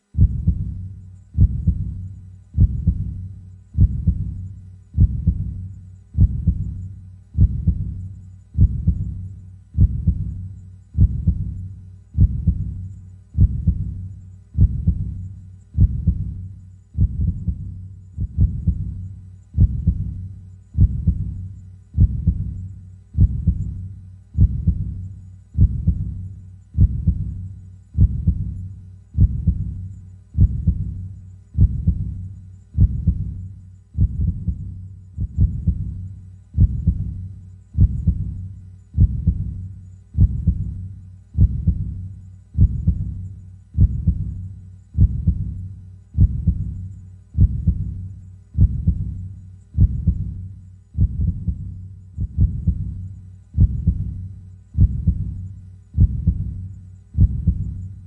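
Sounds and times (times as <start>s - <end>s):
slow deep heartbeat: 0.1s - 58.0s.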